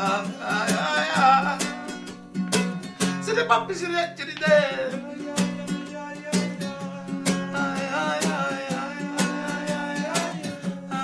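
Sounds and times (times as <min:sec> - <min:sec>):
person singing: 0:00.0 - 0:02.2, 0:03.0 - 0:11.0
acoustic guitar strumming: 0:00.0 - 0:11.0.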